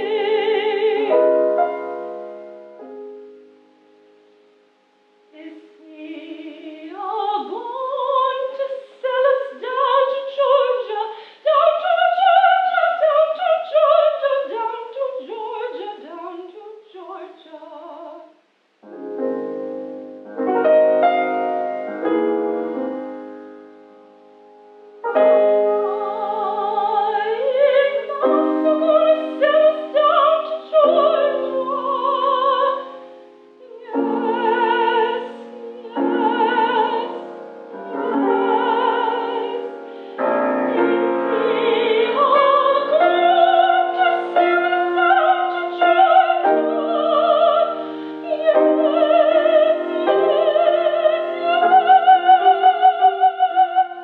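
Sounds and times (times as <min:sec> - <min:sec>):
woman singing operatically: 0:00.0 - 0:01.9, 0:05.4 - 0:18.3, 0:25.2 - 0:54.0
grand piano: 0:00.0 - 0:54.0.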